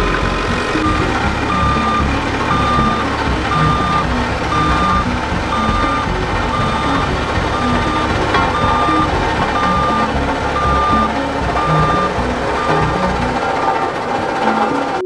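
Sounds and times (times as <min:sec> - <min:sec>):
diesel machinery rumbling: 0:00.0 - 0:15.0
reversing alarm beeping: 0:00.0 - 0:15.0.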